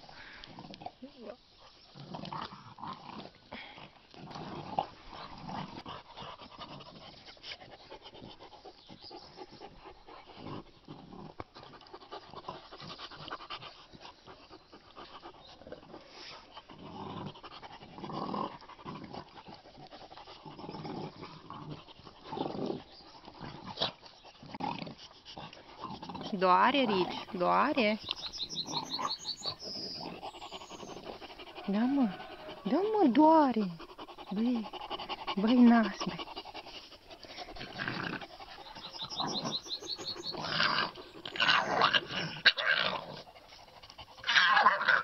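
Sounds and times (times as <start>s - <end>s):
puppies panting: 0.0s - 45.0s.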